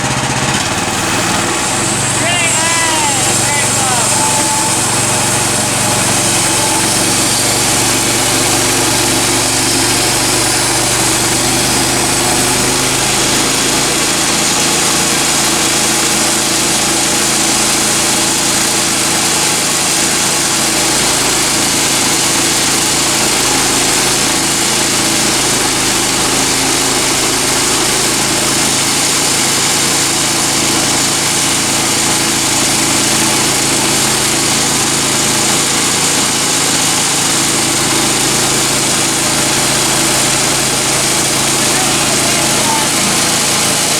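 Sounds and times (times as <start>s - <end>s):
small gas engine running: 0.0s - 43.9s.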